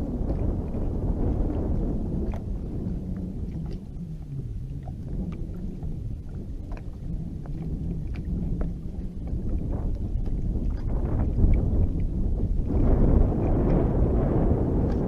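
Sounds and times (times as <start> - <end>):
low wavering hum: 0.0 - 15.0
water lapping against boat hull: 0.0 - 15.0
wind on microphone: 0.0 - 15.0.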